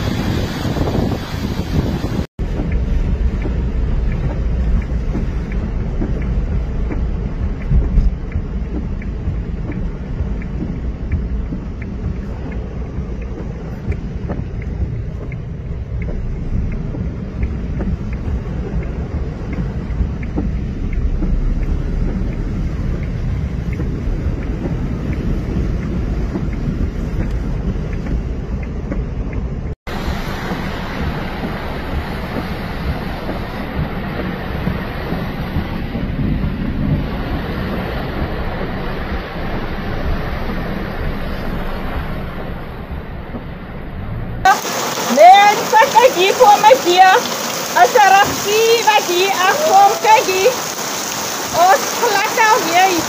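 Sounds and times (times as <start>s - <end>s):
car tyres rumbling on wet road: 0.0s - 53.0s
rain ticking: 0.0s - 53.0s.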